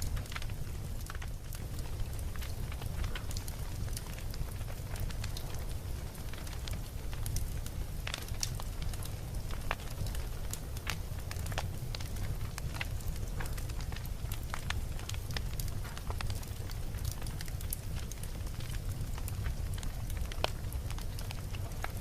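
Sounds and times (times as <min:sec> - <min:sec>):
campfire crackles and pops: 0:00.0 - 0:22.0
low rumble of flame: 0:00.0 - 0:22.0.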